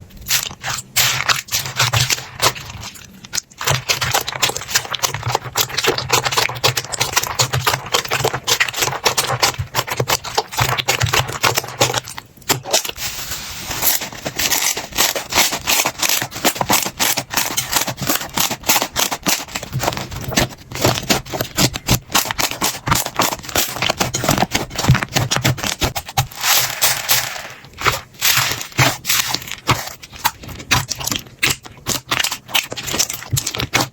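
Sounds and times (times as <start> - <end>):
slime crackling and squelching: 0.0 - 33.9.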